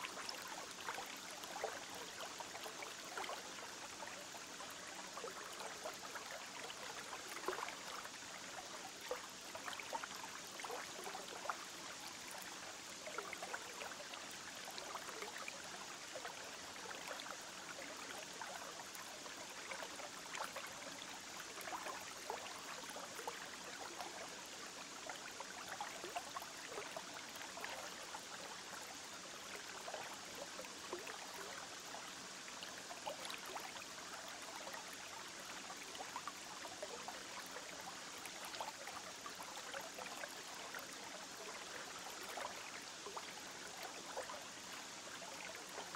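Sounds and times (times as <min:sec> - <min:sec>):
aquarium water trickling and bubbling: 0:00.1 - 0:45.9.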